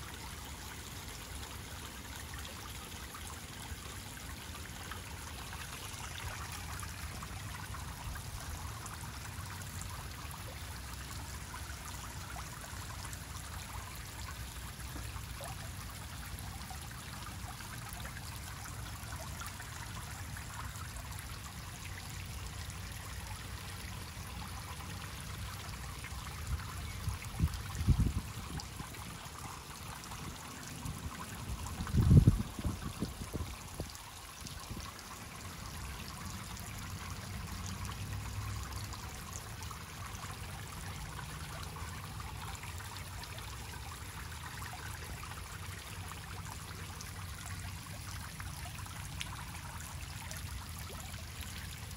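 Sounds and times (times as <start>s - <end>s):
pond fountain splashing: 0.0s - 51.9s.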